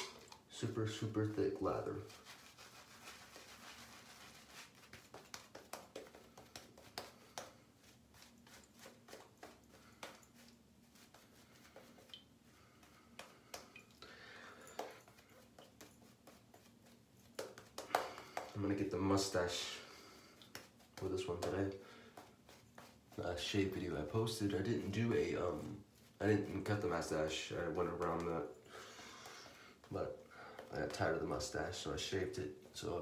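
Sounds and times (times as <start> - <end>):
shaving brush scratching stubble: 0.8 - 13.6, 14.8 - 28.5.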